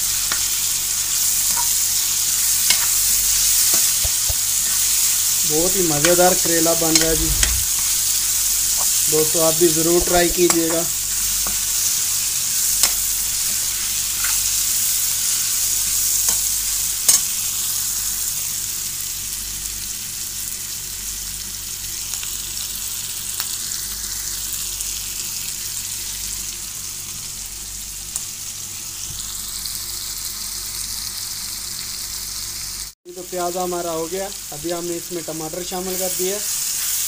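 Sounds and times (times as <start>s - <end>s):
onions sizzling in hot oil: 0.0s - 37.0s.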